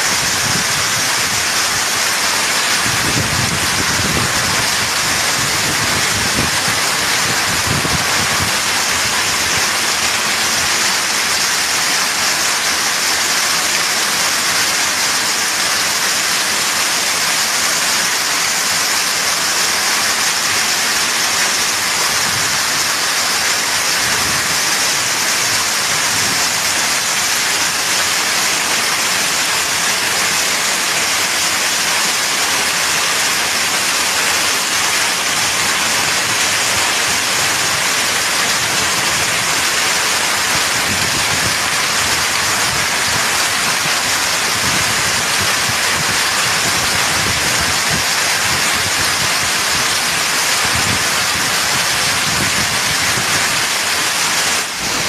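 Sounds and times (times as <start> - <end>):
hail and rain pelting ground: 0.0 - 55.0.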